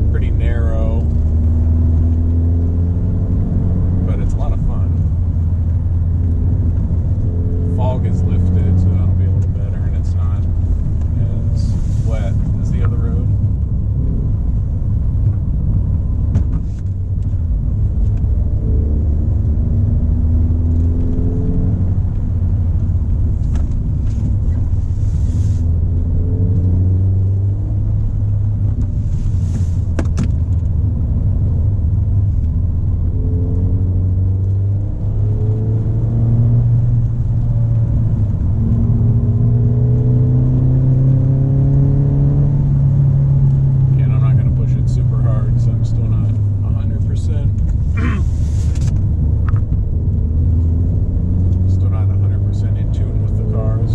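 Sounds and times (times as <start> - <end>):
car engine rumbling: 0.0 - 53.9.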